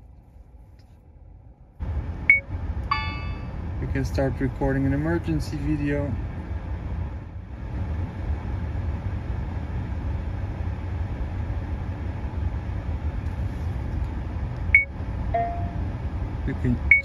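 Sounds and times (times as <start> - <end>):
low rumble inside car cabin: 0.0 - 17.0.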